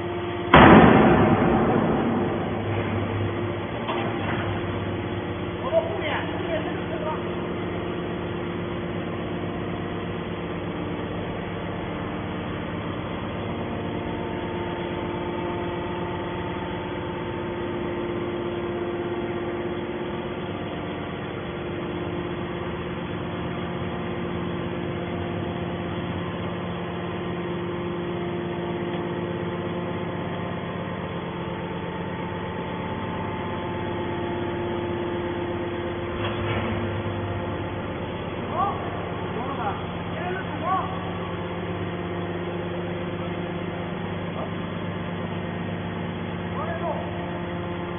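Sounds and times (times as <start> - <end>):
hydraulic baler motor humming: 0.0 - 47.9.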